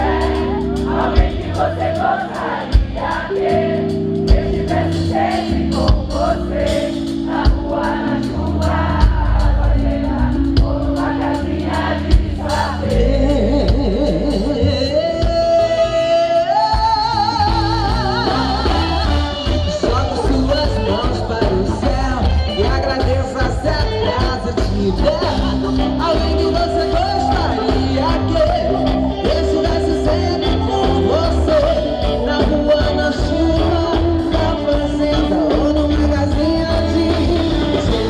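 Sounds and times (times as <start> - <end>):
drums: 0.0 - 38.0
live soul band: 0.0 - 38.0.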